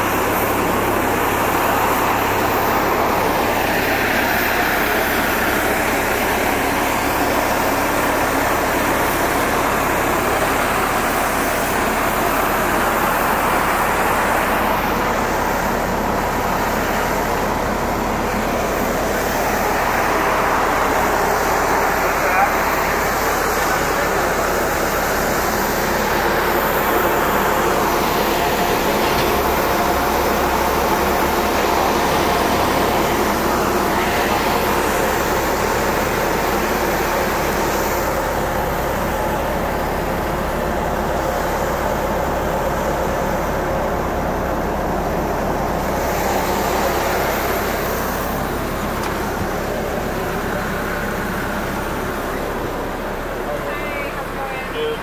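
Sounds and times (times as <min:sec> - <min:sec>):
ground equipment running: 0:00.0 - 0:55.0
turbine engines droning: 0:00.0 - 0:55.0.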